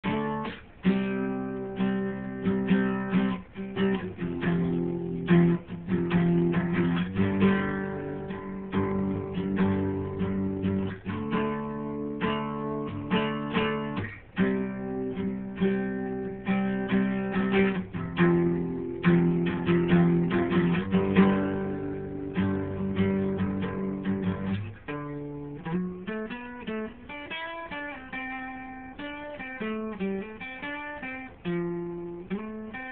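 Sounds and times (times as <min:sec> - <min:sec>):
acoustic guitar: 0:00.0 - 0:32.9.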